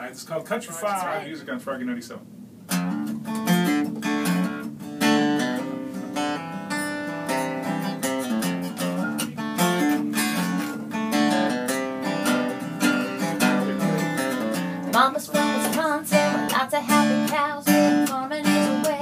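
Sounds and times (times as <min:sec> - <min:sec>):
acoustic guitar strumming chords: 0:02.7 - 0:19.0.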